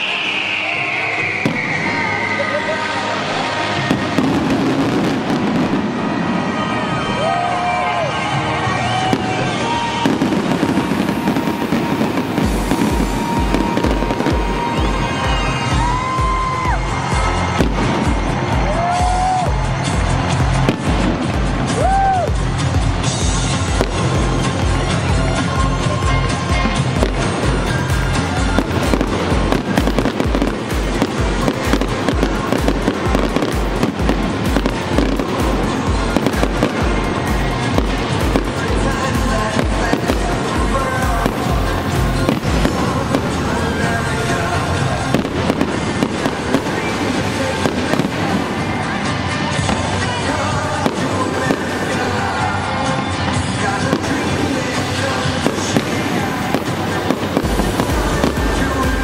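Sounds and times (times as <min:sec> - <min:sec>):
fireworks bangs: 0:00.0 - 0:07.5, 0:08.2 - 0:59.0
fireworks crackling: 0:00.0 - 0:59.0
music: 0:00.0 - 0:59.0
low bass beat: 0:10.0 - 0:52.9, 0:53.5 - 0:59.0.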